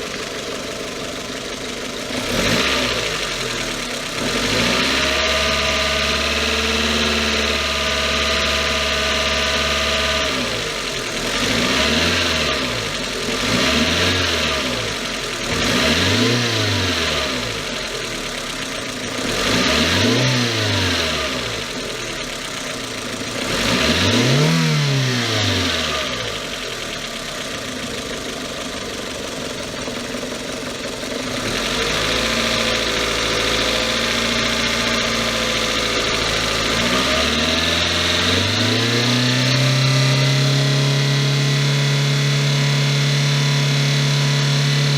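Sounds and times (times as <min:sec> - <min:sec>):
car engine revving and idling: 0:00.0 - 0:44.9.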